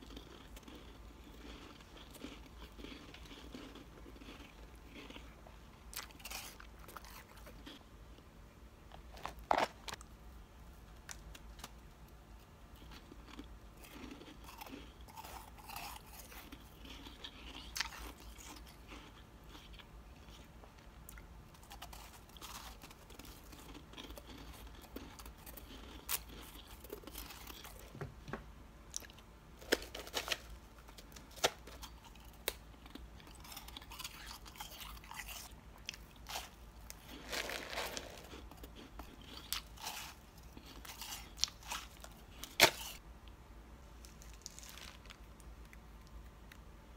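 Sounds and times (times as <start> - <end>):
frost being chewed with crunches: 0.0 - 8.2, 11.0 - 28.0, 28.9 - 43.0, 44.0 - 46.7.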